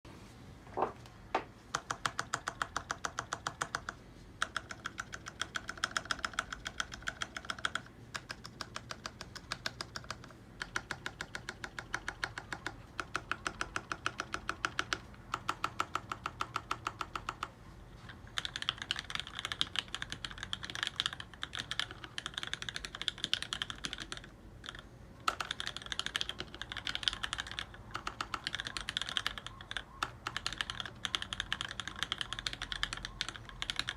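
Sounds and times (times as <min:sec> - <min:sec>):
typing on mechanical keyboard: 0:01.7 - 0:33.9.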